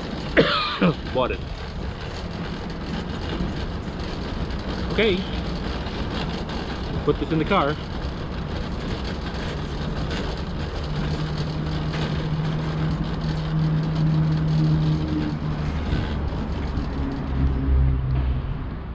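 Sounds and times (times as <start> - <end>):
parking lot traffic noise: 0.0 - 18.9
vehicle engine humming: 0.0 - 18.9.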